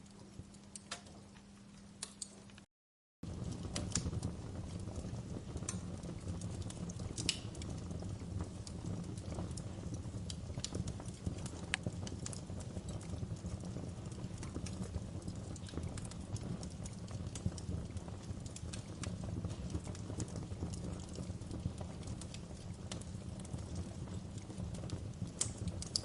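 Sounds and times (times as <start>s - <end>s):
fire crackling: 0.0s - 26.0s.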